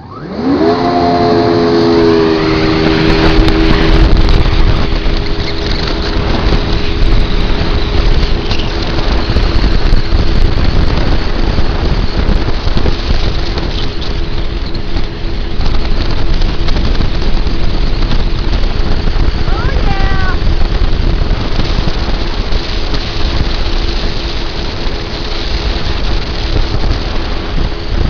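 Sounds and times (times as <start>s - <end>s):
jet ski engine running: 0.0s - 28.0s
wind noise on microphone: 0.0s - 28.0s.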